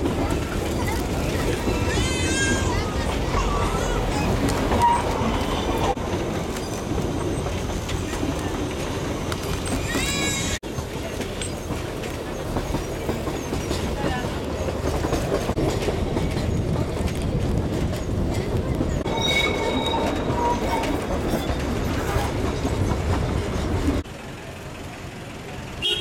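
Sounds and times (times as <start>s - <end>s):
train running gear rattling: 0.0s - 24.1s.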